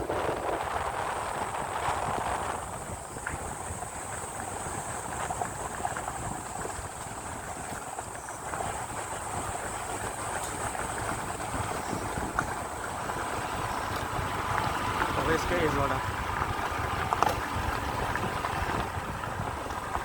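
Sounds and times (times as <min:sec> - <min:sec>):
motorcycle engine rumble: 0:00.0 - 0:20.0
wind and road noise: 0:00.0 - 0:20.0.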